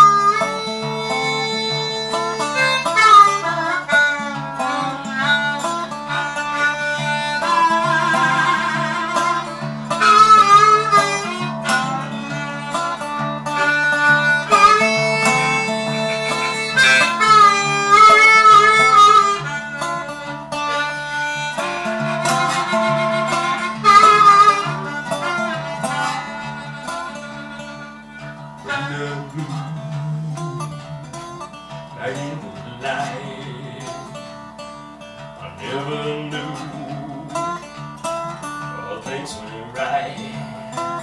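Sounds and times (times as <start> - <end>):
blues harmonica solo: 0.0 - 41.0
slide resonator guitar: 0.0 - 41.0.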